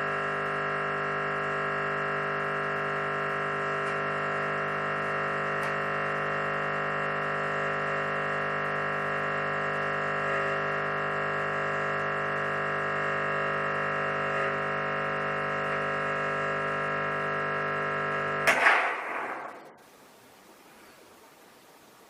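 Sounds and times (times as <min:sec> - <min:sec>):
espresso machine pump humming: 0:00.0 - 0:18.4.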